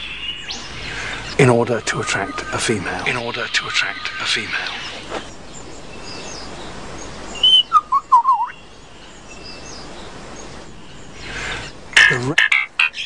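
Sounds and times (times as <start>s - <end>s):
faint background noise: 0.0s - 13.0s
lyrebird singing: 0.0s - 13.0s.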